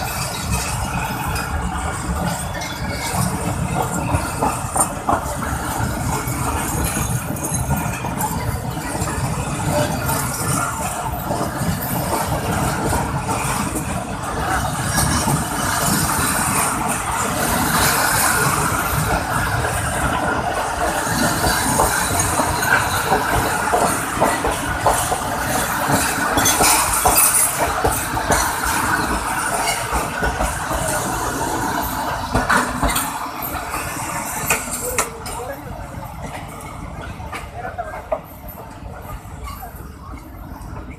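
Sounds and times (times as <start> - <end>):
train clicks and rattles: 0.0 - 40.9
train wheels rumbling on rails: 0.0 - 40.9.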